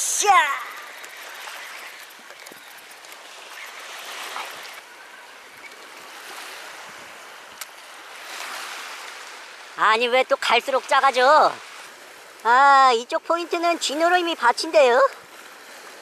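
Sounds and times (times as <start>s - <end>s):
small waves washing over pebbles: 0.0s - 16.0s.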